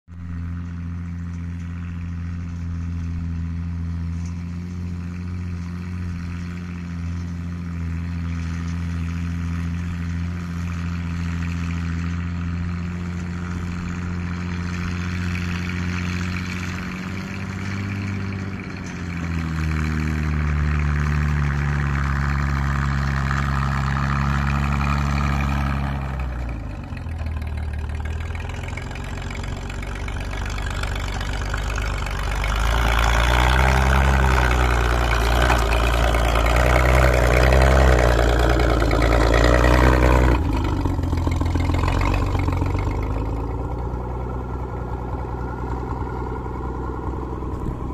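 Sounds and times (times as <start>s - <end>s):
tracked vehicle engine running: 0.0s - 47.9s.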